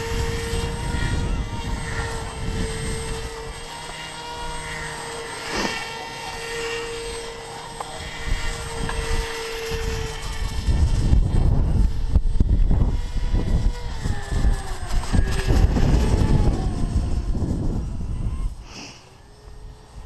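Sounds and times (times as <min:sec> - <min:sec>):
electric motor and propeller whining: 0:00.0 - 0:20.0.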